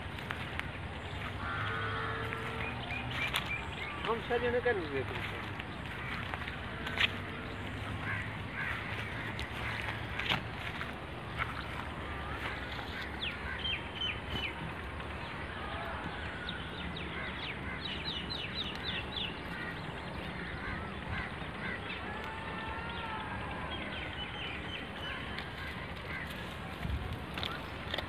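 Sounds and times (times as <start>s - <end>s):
birds calling and chirping: 0.0s - 28.0s.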